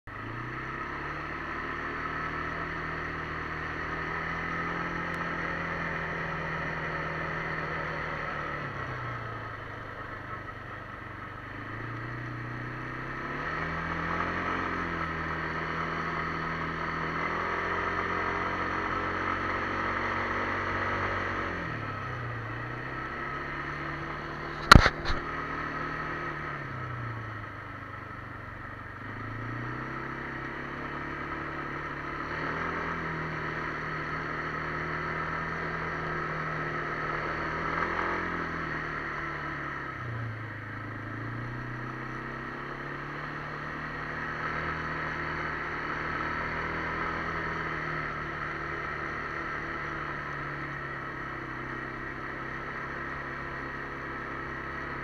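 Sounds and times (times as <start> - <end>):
quad bike engine running: 0.1 - 55.0.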